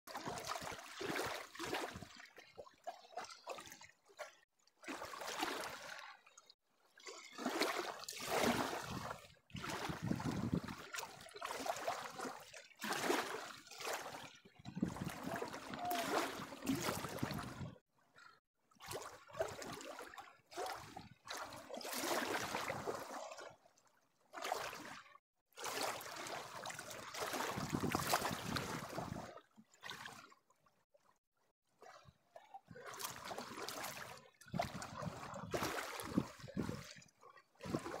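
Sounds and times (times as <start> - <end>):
river waves lapping against bank: 0.1 - 6.3, 7.0 - 17.8, 18.9 - 23.5, 25.6 - 30.3, 31.8 - 38.0.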